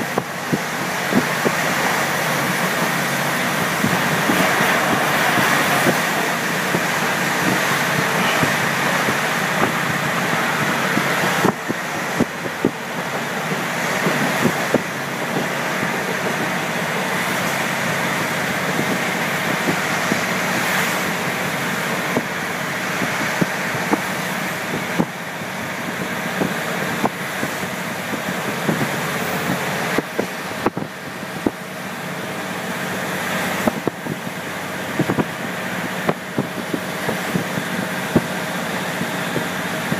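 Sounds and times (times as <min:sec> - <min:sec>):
railcar engine and wheels drone: 0:00.0 - 0:39.9.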